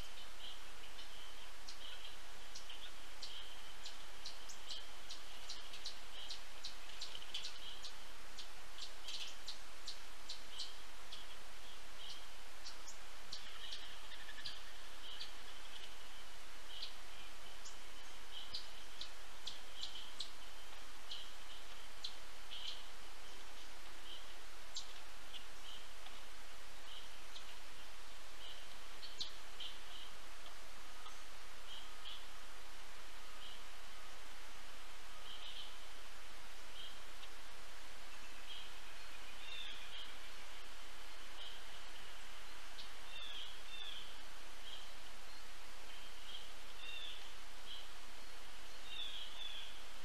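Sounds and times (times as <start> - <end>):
outdoor hiss: 0.0 - 50.0
small birds chirping: 0.0 - 50.0.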